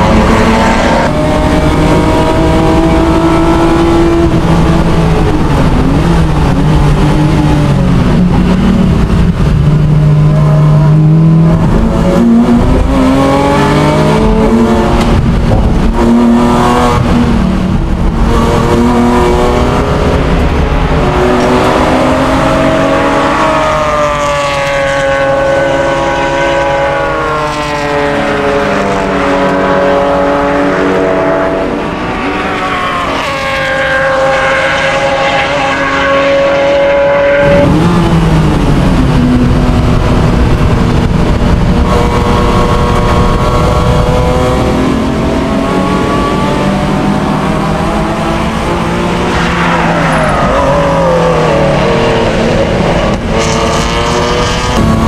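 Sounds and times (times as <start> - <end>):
racing car engine at full throttle: 0.0 - 55.0.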